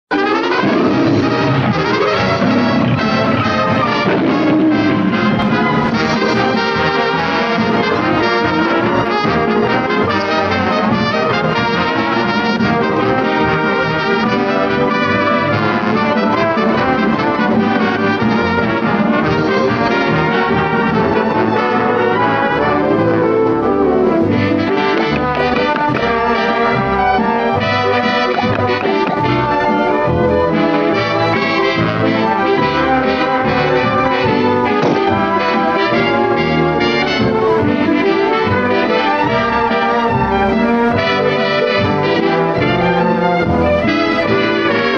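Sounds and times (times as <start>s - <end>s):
orchestral music with brass: 0.1s - 44.9s.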